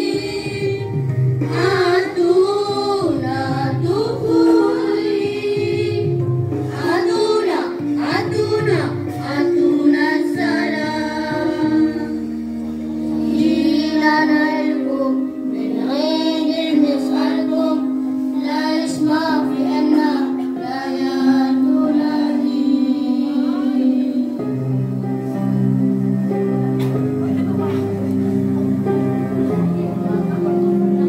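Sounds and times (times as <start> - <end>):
backing music with held chords: 0.0 - 31.0.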